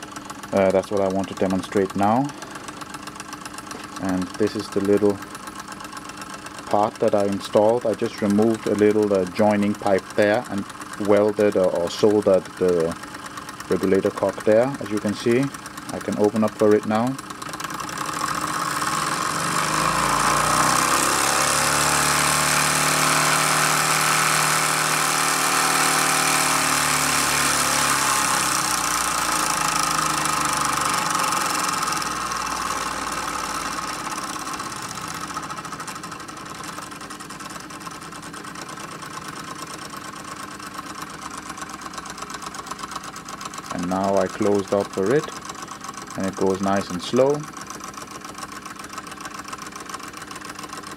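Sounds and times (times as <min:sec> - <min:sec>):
model steam engine running with hiss: 0:00.0 - 0:50.9.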